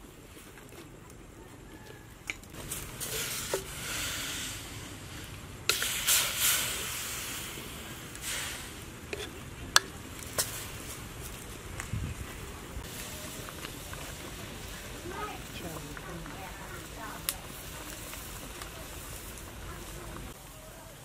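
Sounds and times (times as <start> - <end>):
water sloshing in a wok: 2.5 - 20.4.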